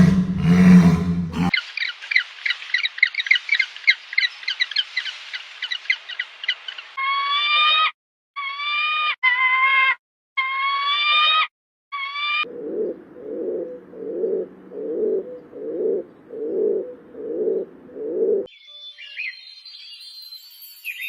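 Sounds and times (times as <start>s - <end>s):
long steady bird calls: 0.0s - 9.1s, 12.0s - 21.0s.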